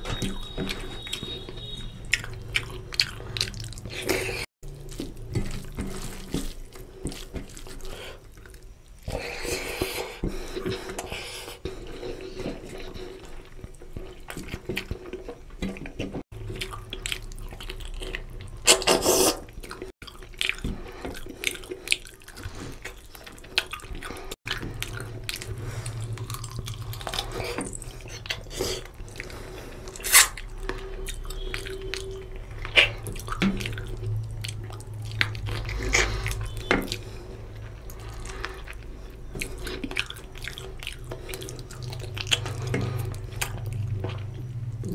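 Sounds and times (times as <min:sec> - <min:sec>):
chewing and lip smacking: 0:00.0 - 0:44.9.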